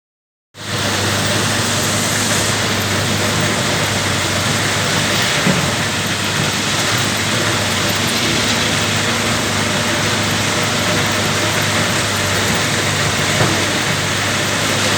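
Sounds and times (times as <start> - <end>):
excavator diesel engine running: 0.6 - 14.9.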